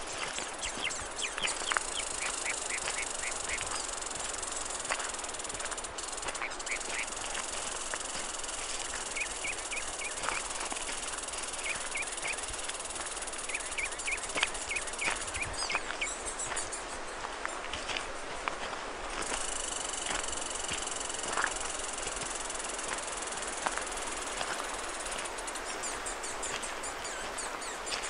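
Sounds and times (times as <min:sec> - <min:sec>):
steady high hiss: 0:00.0 - 0:28.0.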